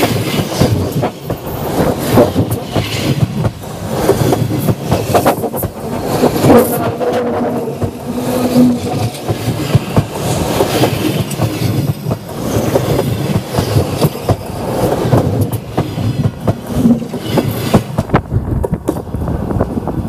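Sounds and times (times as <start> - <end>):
train wheels clattering overhead: 0.0 - 19.8.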